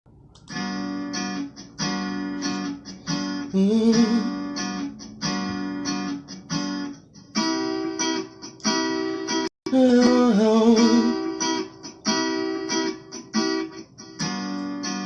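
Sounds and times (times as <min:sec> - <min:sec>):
acoustic guitar strumming: 0:00.5 - 0:15.0.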